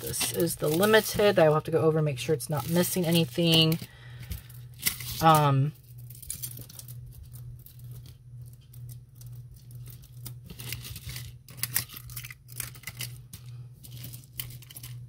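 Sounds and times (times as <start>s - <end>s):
jewelry clicking and rattling: 2.6s - 15.0s.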